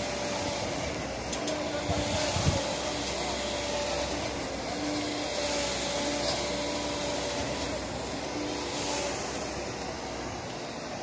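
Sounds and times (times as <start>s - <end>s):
concrete pump running: 0.0s - 11.0s.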